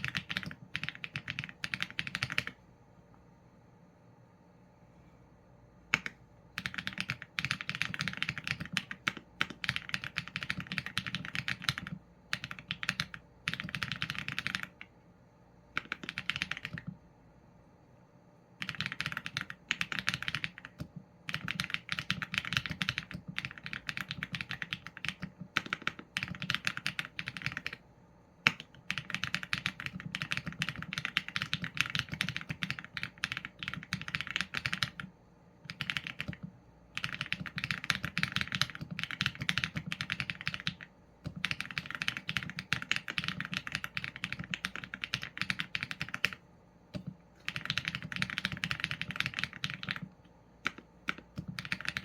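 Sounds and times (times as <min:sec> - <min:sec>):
mechanical keyboard typing: 0:00.0 - 0:02.6, 0:05.9 - 0:14.9, 0:15.7 - 0:17.0, 0:18.6 - 0:27.8, 0:28.4 - 0:52.0.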